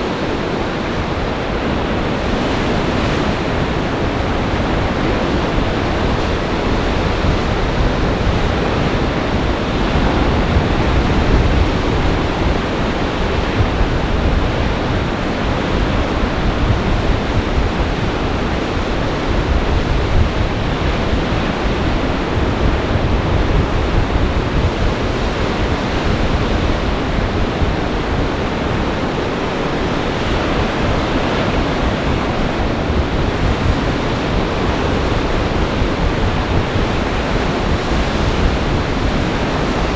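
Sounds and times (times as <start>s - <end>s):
strong wind: 0.0s - 39.9s
wind rumbling on microphone: 0.0s - 39.9s.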